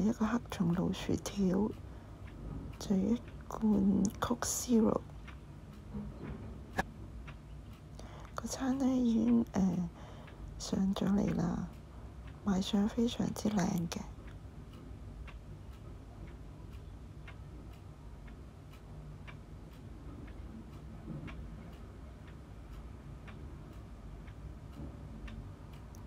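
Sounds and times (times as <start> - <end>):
regular ticking: 0.0 - 26.0
steady low hum: 0.0 - 26.0.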